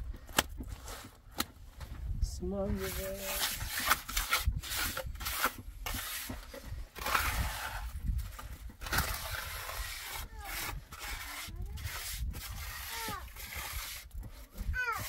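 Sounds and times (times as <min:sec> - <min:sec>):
hand scraping wet mortar: 0:00.2 - 0:01.5, 0:02.6 - 0:15.0.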